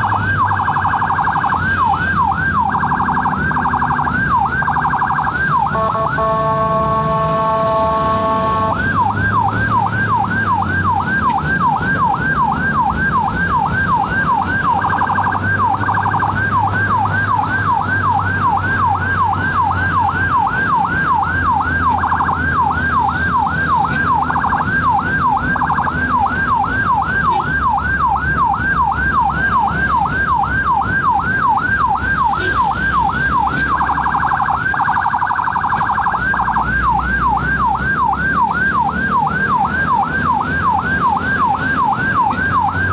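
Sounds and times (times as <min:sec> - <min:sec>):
ambulance siren yelp: 0:00.0 - 0:42.9
multi-tone siren blare: 0:00.0 - 0:42.9
vehicle engine and road noise: 0:00.0 - 0:42.9.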